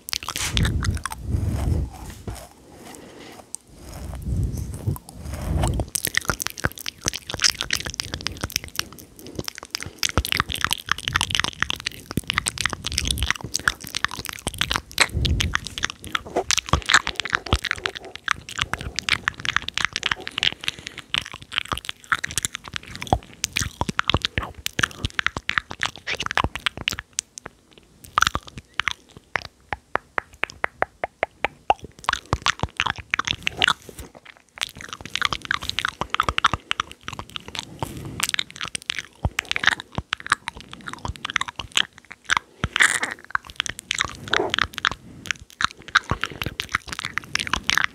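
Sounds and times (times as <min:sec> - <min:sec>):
wet mouth clicks and smacks: 0:00.0 - 0:02.5, 0:03.4 - 0:47.9.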